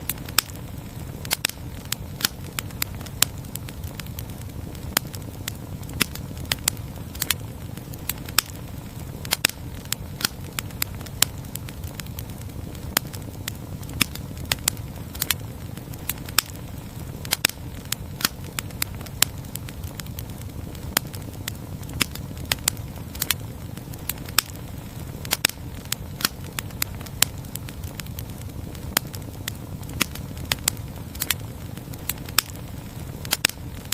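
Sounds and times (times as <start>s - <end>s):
campfire crackling and popping: 0.0s - 33.9s
low rush of flame: 0.0s - 33.9s.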